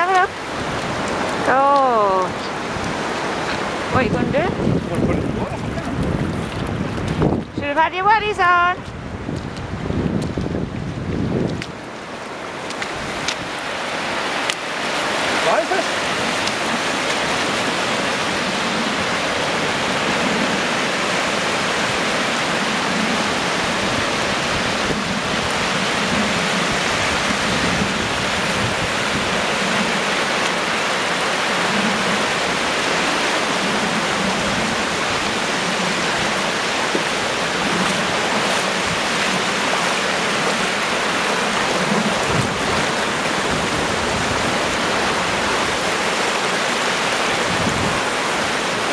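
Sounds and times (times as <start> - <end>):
small waves washing over sand: 0.0 - 48.9.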